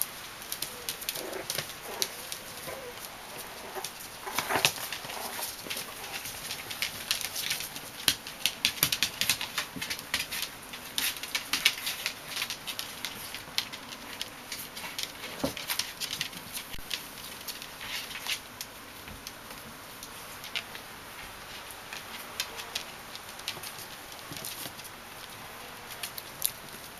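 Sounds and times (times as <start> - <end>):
puppy claws clicking on hard floor: 0.5 - 20.9, 21.6 - 26.9.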